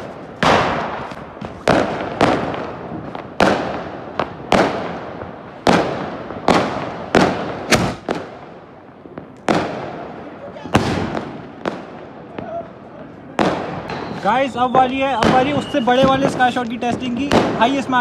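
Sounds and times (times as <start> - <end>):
firework bangs with hiss: 0.0 - 18.0.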